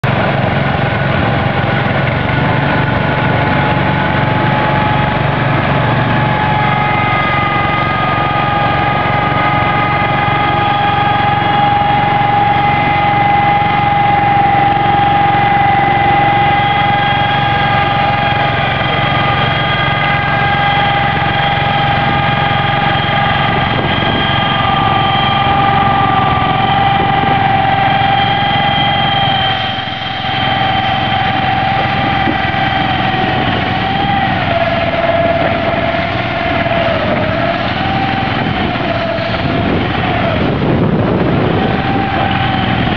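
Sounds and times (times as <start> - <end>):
garden tractor engine running: 0.0 - 42.9
high whine: 0.0 - 42.9.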